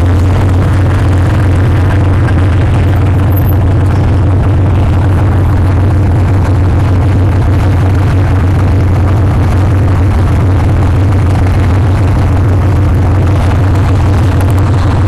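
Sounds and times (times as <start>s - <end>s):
tank diesel engine drone: 0.0s - 15.0s.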